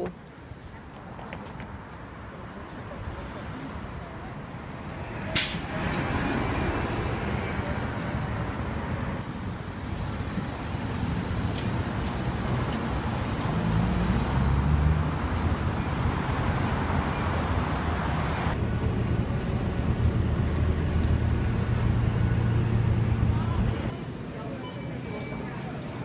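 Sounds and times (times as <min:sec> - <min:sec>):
cars passing: 0:00.0 - 0:23.9.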